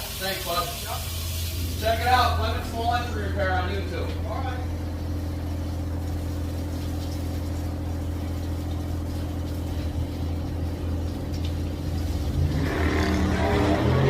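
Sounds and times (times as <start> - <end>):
low mechanical drone: 1.4 - 14.0.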